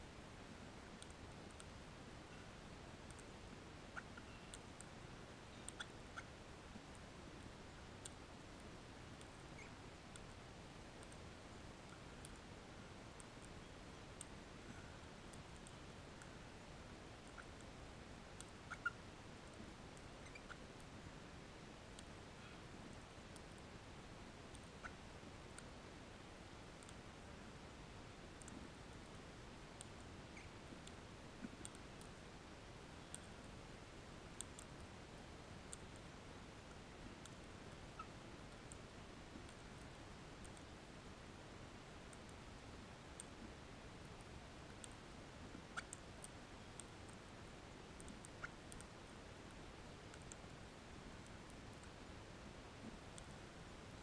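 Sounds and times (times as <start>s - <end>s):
low steady hiss: 0.0s - 54.0s.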